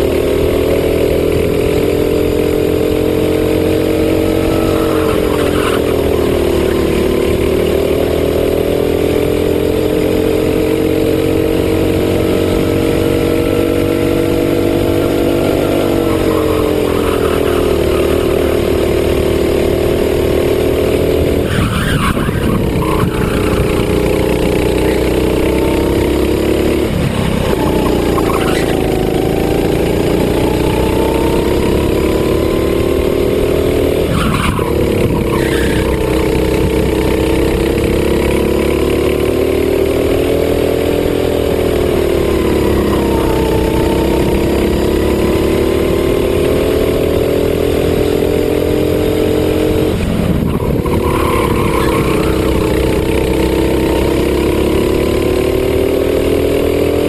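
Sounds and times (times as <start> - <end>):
racing kart engine: 0.0 - 57.0.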